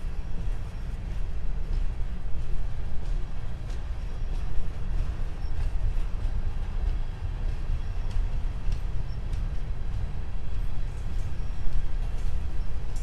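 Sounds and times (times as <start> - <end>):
freight train rumbling past: 0.0 - 13.0
wheels clicking: 0.0 - 13.0.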